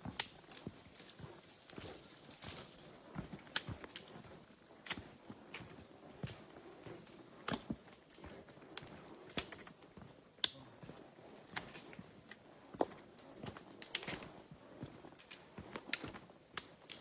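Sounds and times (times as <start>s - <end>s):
footsteps on rocky trail: 0.0s - 17.0s.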